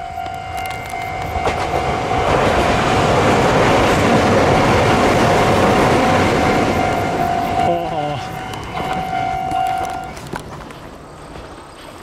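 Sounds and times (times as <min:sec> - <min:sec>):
crossing warning bell: 0:00.0 - 0:10.9
electric train passing: 0:00.0 - 0:12.0
wheels clacking over rail joints: 0:00.0 - 0:12.0.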